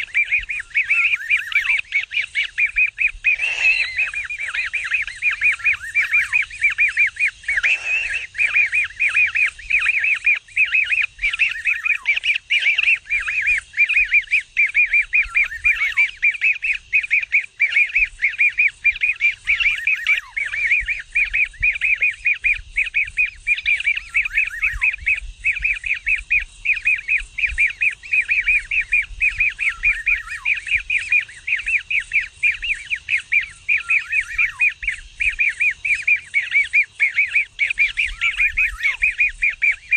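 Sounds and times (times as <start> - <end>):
bird chick begging chirps: 0.0 - 39.9.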